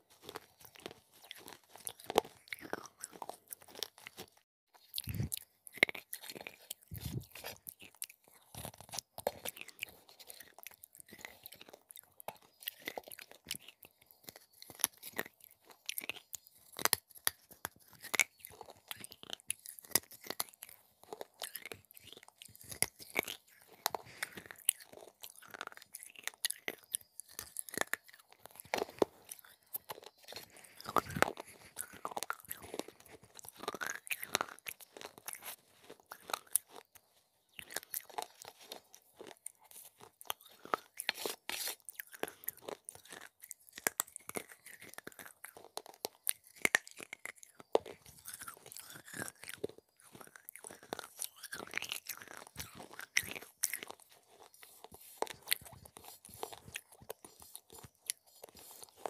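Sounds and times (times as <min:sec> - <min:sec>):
chewing crunchy clay: 0:00.0 - 0:59.0
wet mouth sounds: 0:00.2 - 0:37.0, 0:37.6 - 0:59.0.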